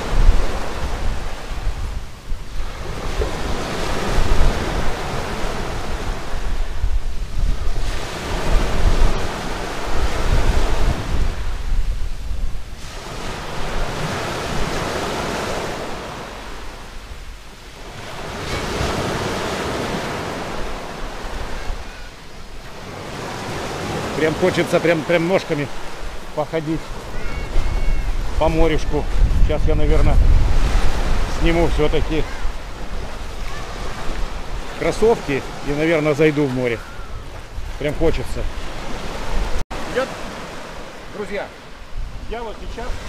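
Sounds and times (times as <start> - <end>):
surf breaking on pebble beach: 0.0 - 16.8, 17.7 - 36.8
wind rumbling on microphone: 0.0 - 24.2, 25.6 - 43.0.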